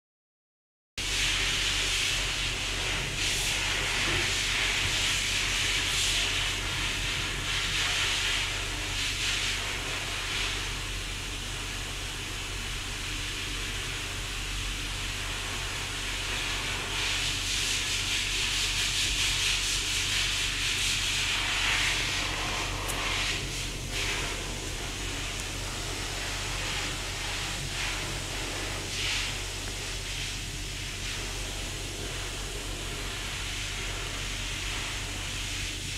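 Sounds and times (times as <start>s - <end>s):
steady hiss: 1.0s - 35.9s.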